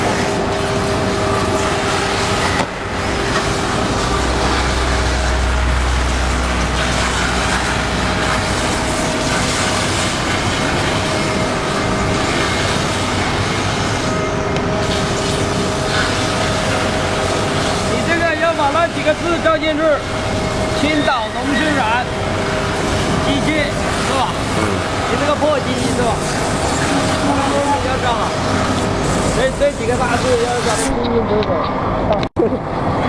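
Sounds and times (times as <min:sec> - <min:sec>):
grinding machine whirring: 0:00.0 - 0:33.0.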